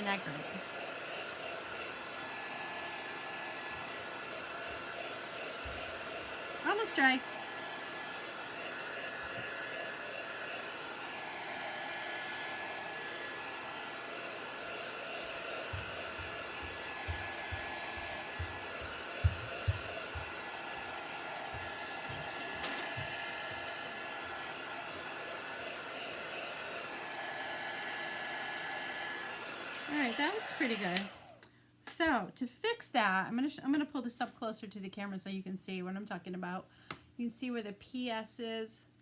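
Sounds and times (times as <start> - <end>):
heat tool blowing air: 0.0 - 31.4.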